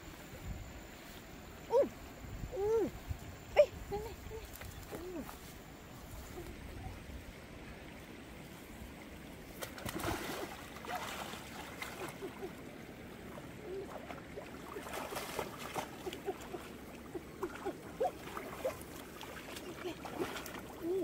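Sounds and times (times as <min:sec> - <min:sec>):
water splashing and trickling: 0:04.1 - 0:21.0.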